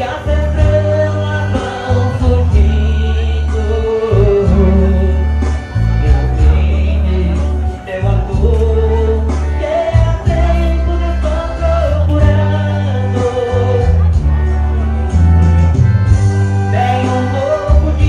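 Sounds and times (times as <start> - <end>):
person singing: 0.0 - 15.8, 16.6 - 18.0
live band music: 0.0 - 18.0.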